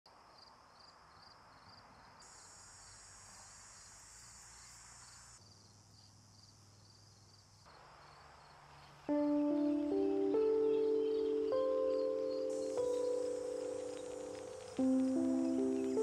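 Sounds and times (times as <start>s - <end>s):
crickets chirping: 0.1s - 16.0s
high insect hiss: 0.1s - 16.0s.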